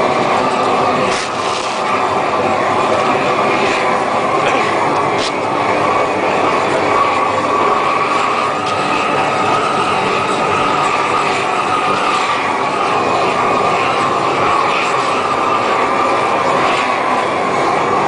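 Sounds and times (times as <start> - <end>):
roofing torch burning: 0.0 - 18.0.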